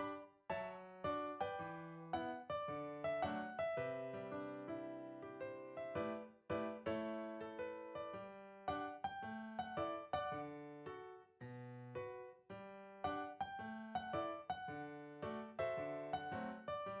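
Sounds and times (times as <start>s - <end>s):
gentle solo piano melody: 0.0s - 17.0s.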